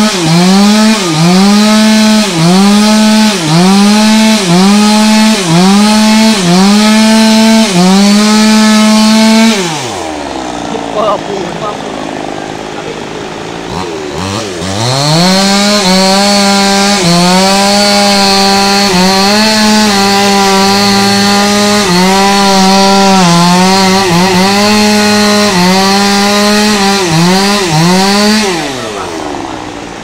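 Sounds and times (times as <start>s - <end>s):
chainsaw sawing into wood: 0.0s - 30.0s.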